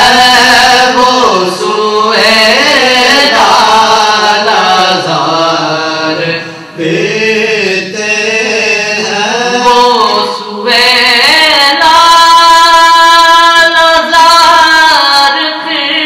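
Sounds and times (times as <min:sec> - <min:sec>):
men singing unaccompanied: 0:00.0 - 0:15.8.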